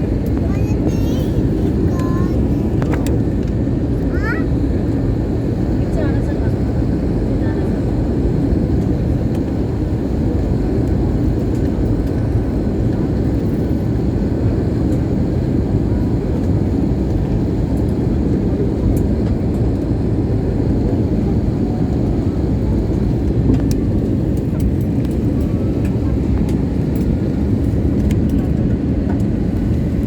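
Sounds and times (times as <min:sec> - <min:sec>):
airliner cabin engine rushing: 0:00.0 - 0:30.0.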